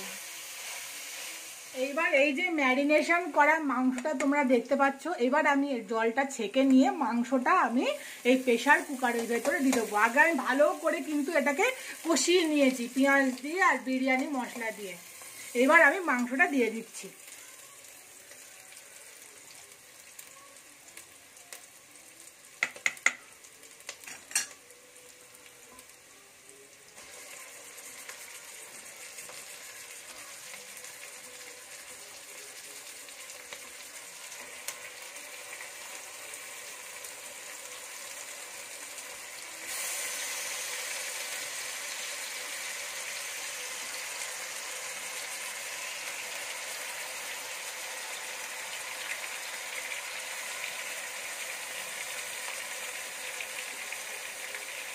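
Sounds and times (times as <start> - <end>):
meat sizzling in oil: 0.0 - 54.9.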